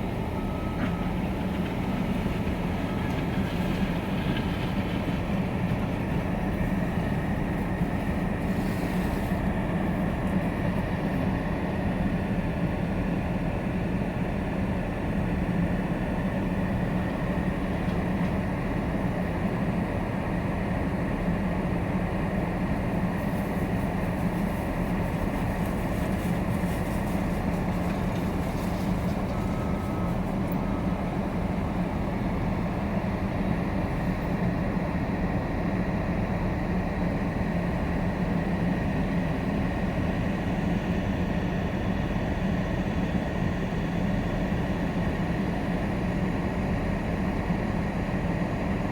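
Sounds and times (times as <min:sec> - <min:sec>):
loader engine running steadily: 0:00.0 - 0:48.9.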